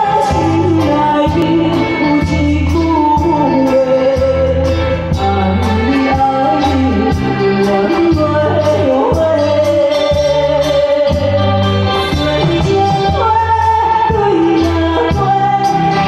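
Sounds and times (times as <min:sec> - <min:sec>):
live band music: 0:00.0 - 0:16.0
woman singing into a microphone: 0:00.0 - 0:16.0.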